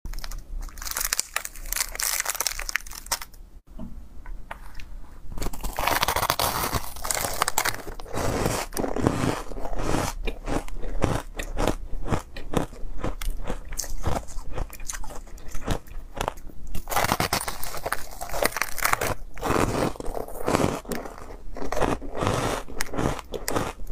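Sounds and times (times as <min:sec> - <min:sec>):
crunching ice: 0:00.1 - 0:03.3, 0:05.4 - 0:23.9.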